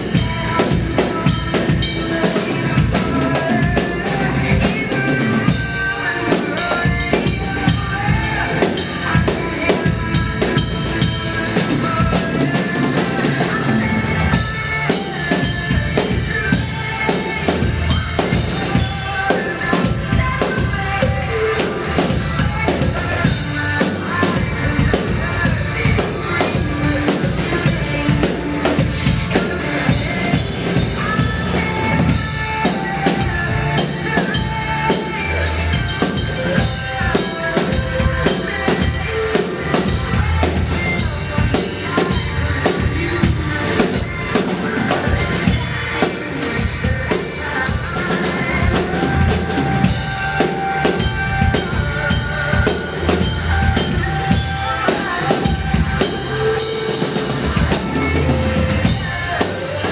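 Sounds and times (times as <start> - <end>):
drum kit beat: 0.0 - 59.9
pitched instruments: 0.0 - 59.9.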